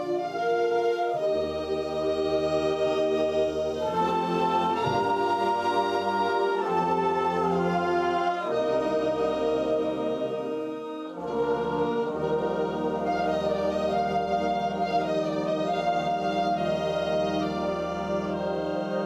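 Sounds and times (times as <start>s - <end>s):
wind band playing slow chords: 0.0s - 19.0s.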